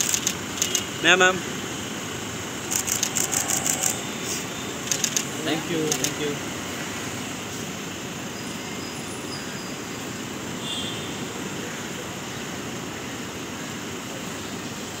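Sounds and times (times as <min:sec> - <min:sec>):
hum of traffic: 0:00.0 - 0:15.0.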